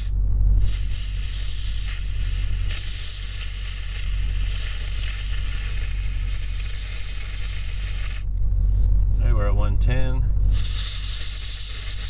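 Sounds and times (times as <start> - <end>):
compressed air hissing: 0.0 - 8.3, 10.5 - 12.0
low rumble: 0.0 - 11.9.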